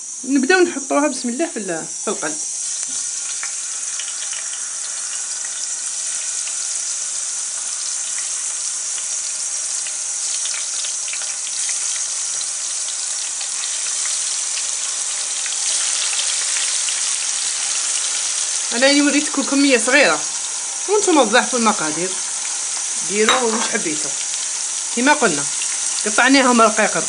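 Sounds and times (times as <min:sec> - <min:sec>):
potato slices sizzling in hot oil: 0:00.0 - 0:27.0.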